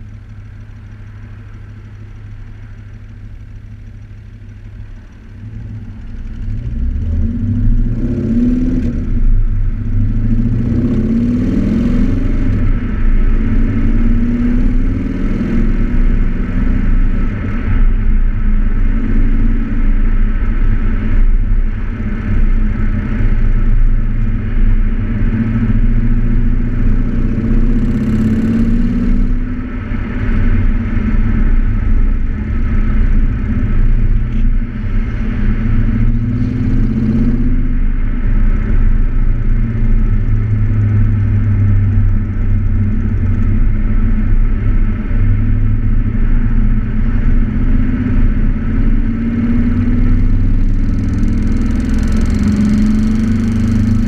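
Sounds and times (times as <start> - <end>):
car exhaust while driving: 0.0 - 54.0.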